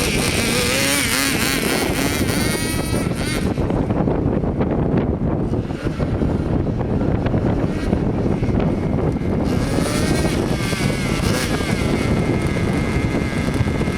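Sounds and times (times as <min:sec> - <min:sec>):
model engine buzzing: 0:00.0 - 0:13.9.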